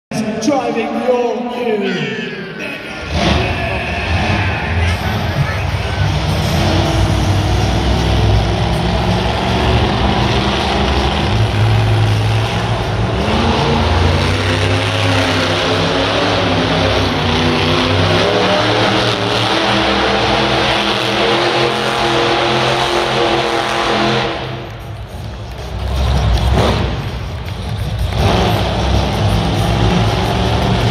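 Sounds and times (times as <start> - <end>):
truck engine revving hard: 3.0 - 30.9.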